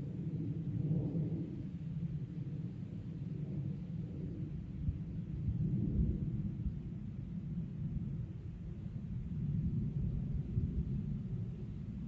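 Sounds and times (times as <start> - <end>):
jet engines low rumble: 0.0 - 12.0.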